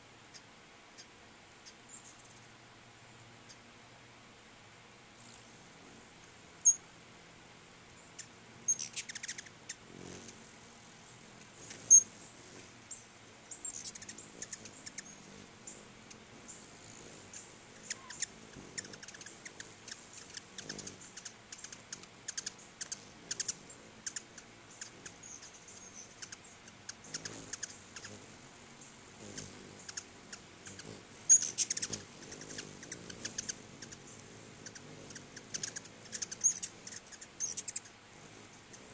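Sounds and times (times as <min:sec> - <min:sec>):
hummingbird chip calls: 0:00.0 - 0:02.5, 0:03.1 - 0:03.7, 0:05.2 - 0:38.9.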